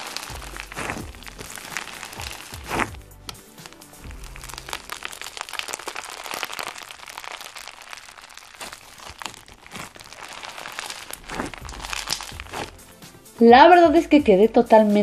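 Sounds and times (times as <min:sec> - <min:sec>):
foam slime crackling and popping: 0:00.0 - 0:13.1.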